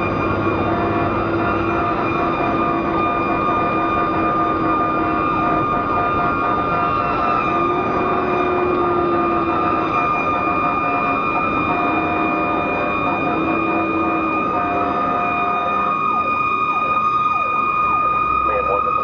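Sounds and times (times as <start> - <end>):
fire engine siren: 0.0 - 19.0
road rumble: 0.0 - 19.0
truck engine: 0.0 - 19.0.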